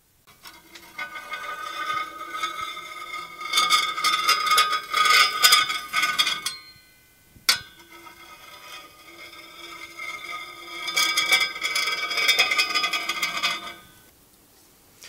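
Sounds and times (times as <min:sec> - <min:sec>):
metal spatula scraping griddle: 0:00.3 - 0:06.7, 0:07.5 - 0:14.1.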